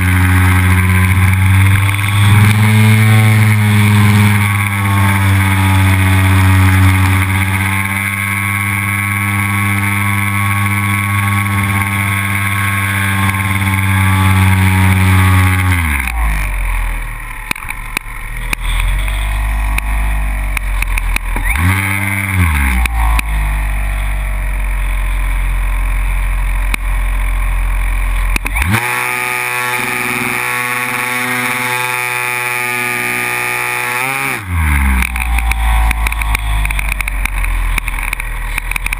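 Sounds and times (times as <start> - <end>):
model airplane engine and propeller: 0.0 - 38.9.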